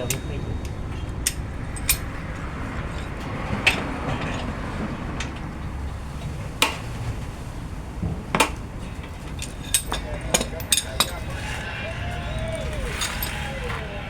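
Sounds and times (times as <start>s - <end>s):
hand tools clinking on metal: 0.0s - 7.1s, 8.4s - 14.0s
steady low rumble: 0.0s - 14.0s.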